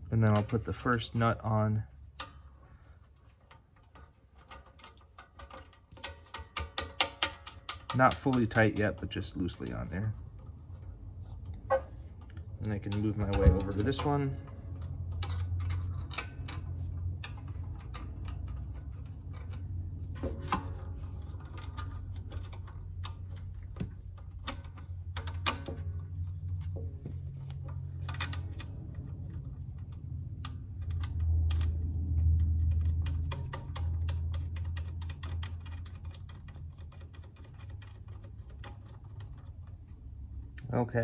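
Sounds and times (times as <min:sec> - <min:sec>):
low steady hum: 0:00.0 - 0:41.0
small metal clicks and taps: 0:02.1 - 0:10.5, 0:12.2 - 0:40.7.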